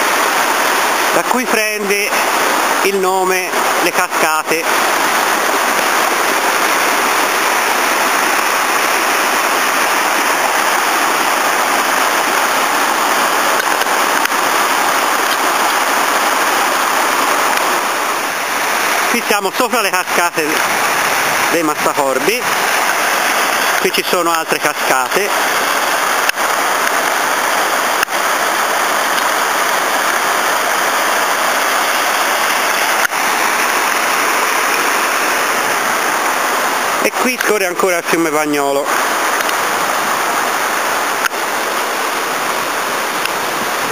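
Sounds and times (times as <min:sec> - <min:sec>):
waterfall splashing over boulders: 0:00.0 - 0:43.9.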